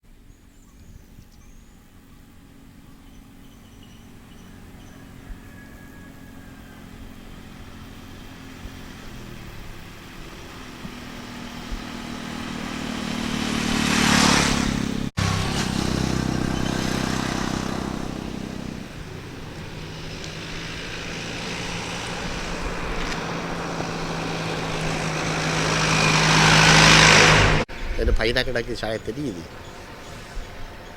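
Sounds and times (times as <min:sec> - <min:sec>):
vehicles passing close by: 0:00.1 - 0:30.9.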